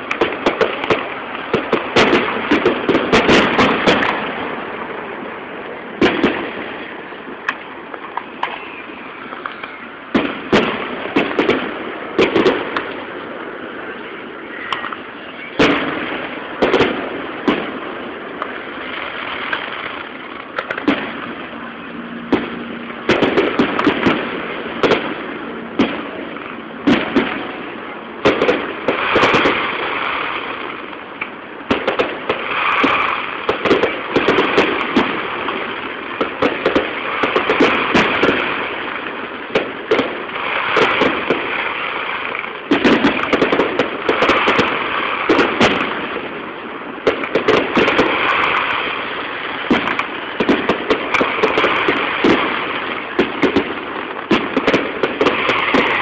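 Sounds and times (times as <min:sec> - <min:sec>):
firework shells bursting: 0:00.0 - 0:56.0
steady noisy background: 0:00.0 - 0:56.0.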